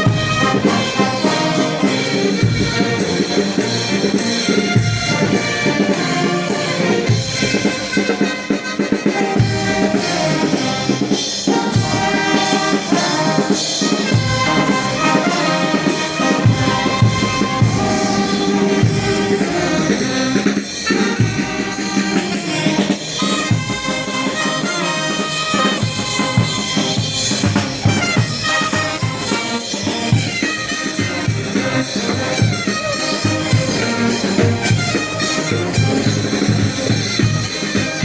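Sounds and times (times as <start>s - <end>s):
brass band with drums marching: 0.0s - 38.0s.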